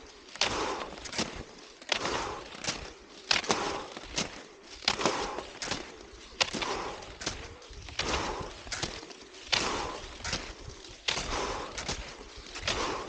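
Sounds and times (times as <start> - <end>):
skis swishing over snow: 0.0 - 13.0.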